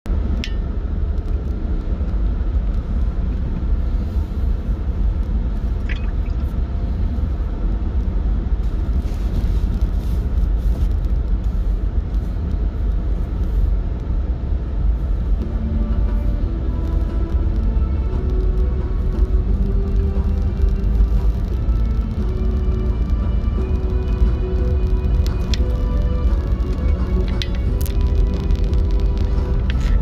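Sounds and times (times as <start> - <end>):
car interior road rumble: 0.1 - 30.0.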